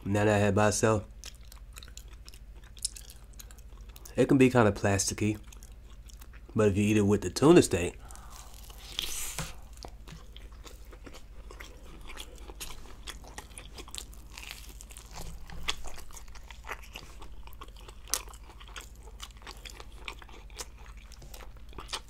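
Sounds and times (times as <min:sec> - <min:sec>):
wet chewing mouth sounds: 0:01.1 - 0:04.2, 0:05.2 - 0:06.6, 0:07.9 - 0:22.0.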